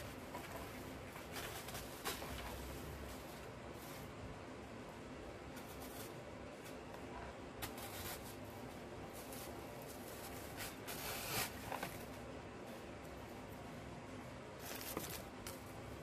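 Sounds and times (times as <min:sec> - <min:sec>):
artificial greenery rustling: 0:00.0 - 0:16.0.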